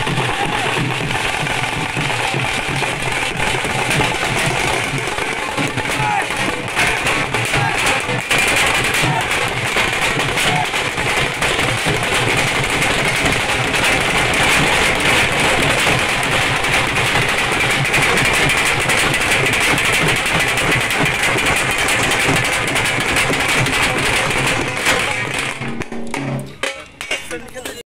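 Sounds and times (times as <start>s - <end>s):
drums beaten with sticks: 0.0s - 27.8s.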